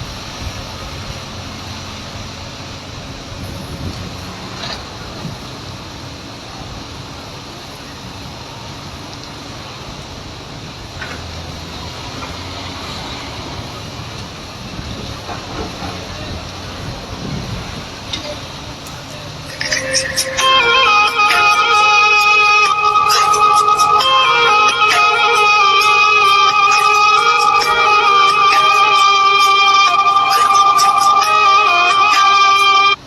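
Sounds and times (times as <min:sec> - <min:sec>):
diesel engine drone: 0:00.0 - 0:33.0.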